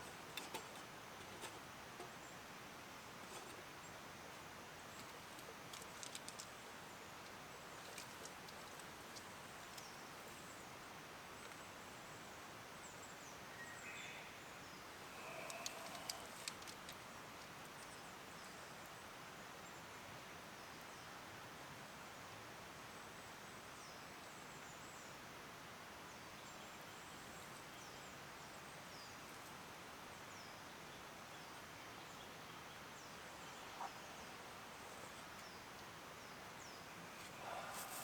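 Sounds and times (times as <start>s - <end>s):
forest ambience: 0.0s - 38.0s.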